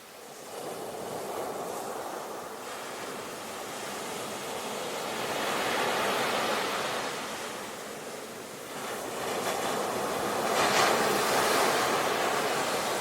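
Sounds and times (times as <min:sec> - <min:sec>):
ocean waves breaking on shore: 0:00.0 - 0:13.0.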